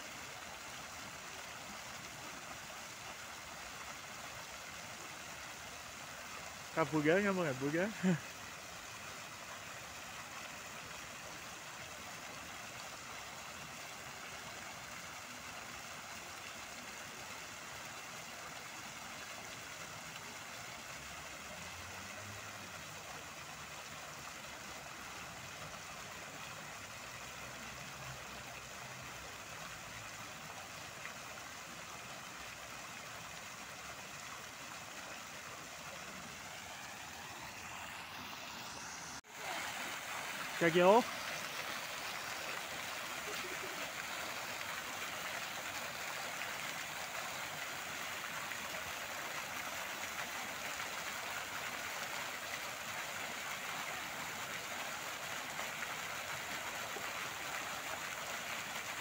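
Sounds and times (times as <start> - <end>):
fountain jets splashing: 0.0 - 59.0.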